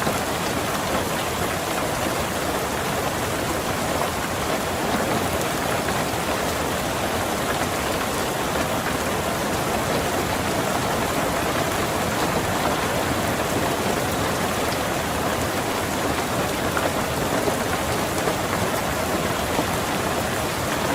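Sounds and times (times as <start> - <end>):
rain falling on a car: 0.0 - 20.9.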